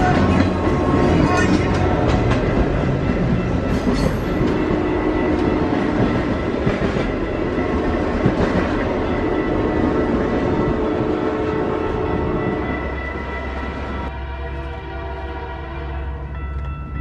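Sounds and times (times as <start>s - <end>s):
train wheels rumbling on rails: 0.0s - 14.8s.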